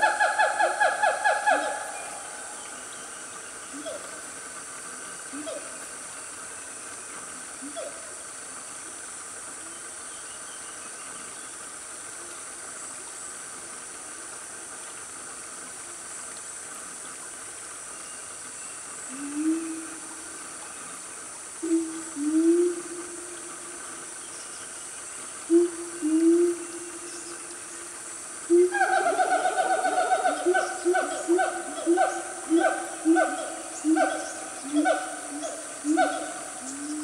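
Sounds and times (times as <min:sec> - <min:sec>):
insect drone: 0:00.0 - 0:37.0.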